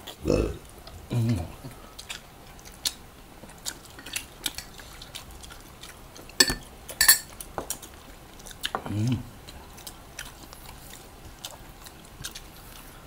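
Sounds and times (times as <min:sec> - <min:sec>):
chewing and mouth smacks: 0:00.0 - 0:13.0.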